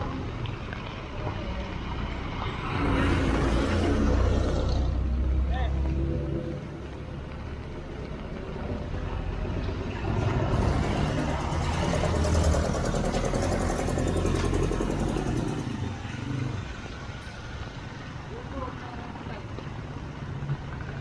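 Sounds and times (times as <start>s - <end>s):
tyre hiss on wet street: 0.0s - 21.0s
vehicle engine hum: 0.0s - 21.0s.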